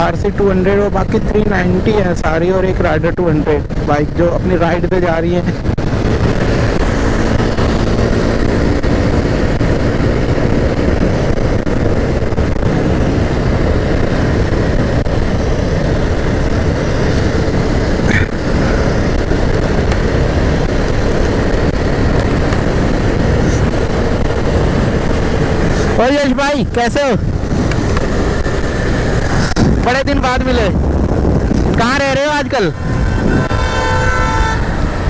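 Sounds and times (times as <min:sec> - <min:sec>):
wind rushing on microphone: 0:00.0 - 0:35.0
motorcycle engine running: 0:03.6 - 0:35.0.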